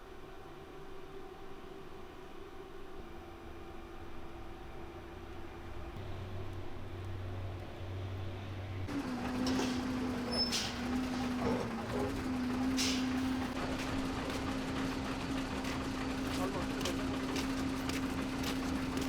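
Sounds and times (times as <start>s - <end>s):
truck engine humming: 3.2s - 19.0s.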